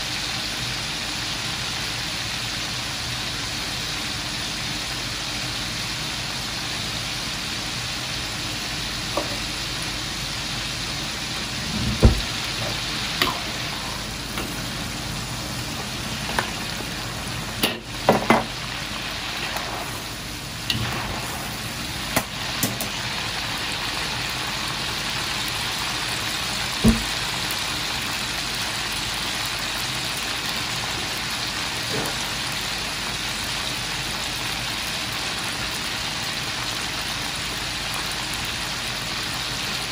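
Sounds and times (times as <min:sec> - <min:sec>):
oil bubbling and sizzling: 0:00.0 - 0:39.9.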